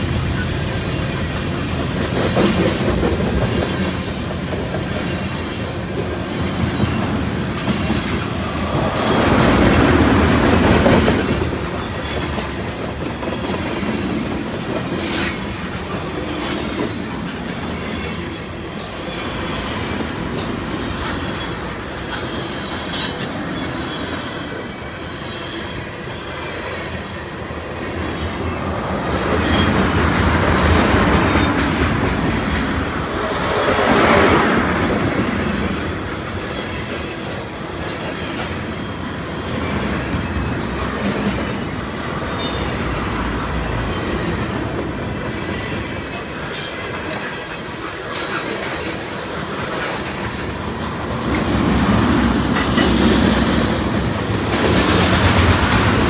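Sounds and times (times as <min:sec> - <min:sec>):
train rumble: 0:00.0 - 0:56.0
train wheels clacking over rail joints: 0:00.0 - 0:56.0.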